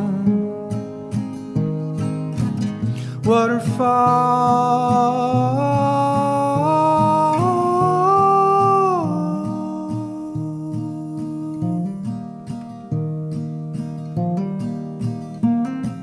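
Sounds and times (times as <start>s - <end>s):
guitar accompaniment: 0.0s - 16.0s.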